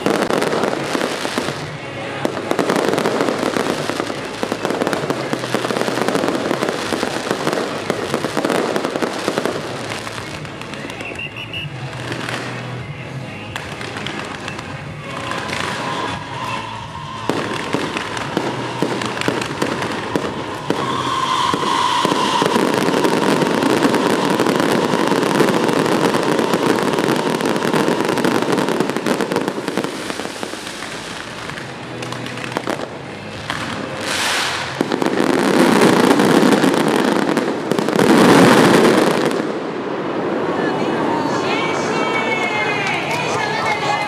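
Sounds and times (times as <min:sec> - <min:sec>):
firecrackers crackling: 0:00.0 - 0:44.0.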